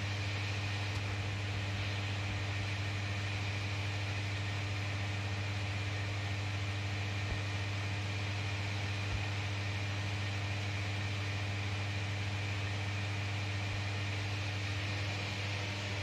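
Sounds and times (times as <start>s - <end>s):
fan humming and hissing: 0.0s - 16.0s.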